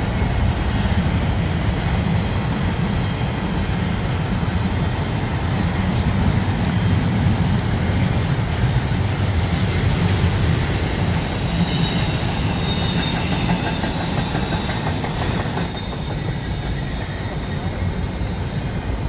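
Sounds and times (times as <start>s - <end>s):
freight train wheels rumbling: 0.0s - 19.0s
high wheel squeal: 2.5s - 19.0s.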